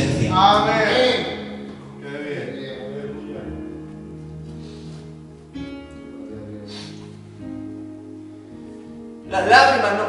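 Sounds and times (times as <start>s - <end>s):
soft worship guitar chords: 0.0s - 10.0s.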